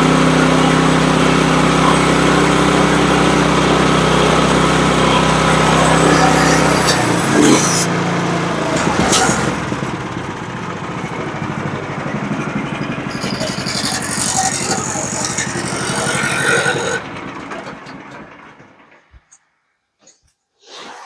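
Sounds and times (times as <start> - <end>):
band sawmill cutting log: 0.0 - 18.9
gas engine winding down: 0.0 - 19.3.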